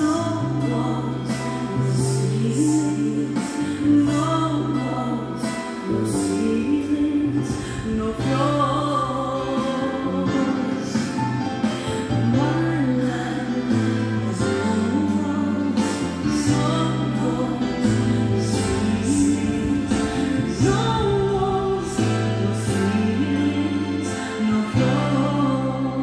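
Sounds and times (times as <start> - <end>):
slow waltz song with singing: 0.0 - 26.0.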